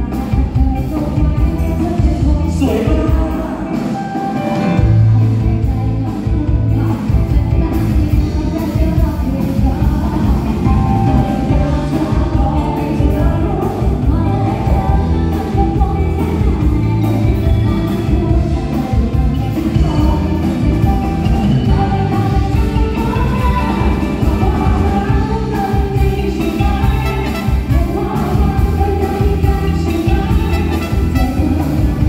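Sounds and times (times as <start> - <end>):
live band playing: 0.0 - 32.0
person singing: 0.0 - 32.0
heavy bass line: 4.6 - 32.0.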